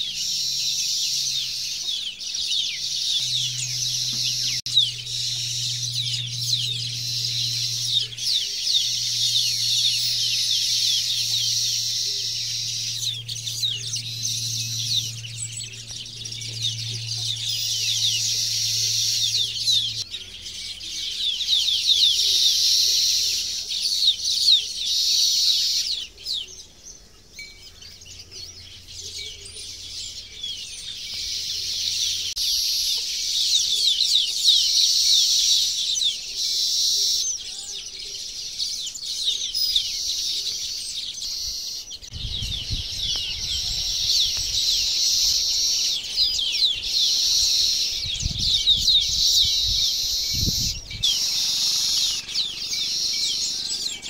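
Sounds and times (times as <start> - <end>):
flock of birds twittering: 0.0 - 54.0.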